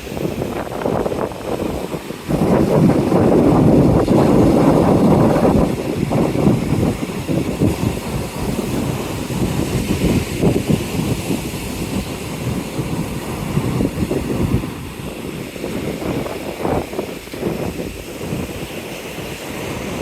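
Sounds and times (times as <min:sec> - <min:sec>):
rough surf: 0:00.0 - 0:20.0
wind buffeting microphone: 0:00.0 - 0:20.0.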